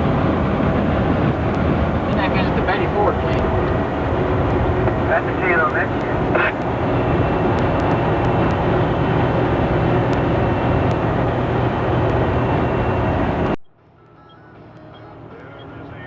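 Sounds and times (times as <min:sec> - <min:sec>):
road noise: 0:00.0 - 0:16.0
truck engine drone: 0:00.0 - 0:16.0.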